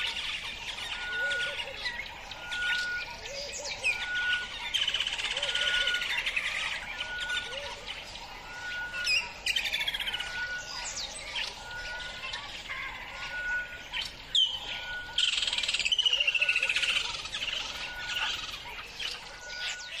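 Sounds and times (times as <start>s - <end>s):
birds trilling and chirping: 0.0s - 20.0s.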